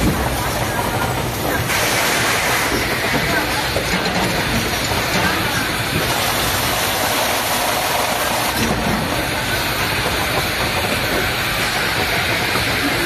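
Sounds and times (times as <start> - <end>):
machinery hum with hiss: 0.0 - 13.0.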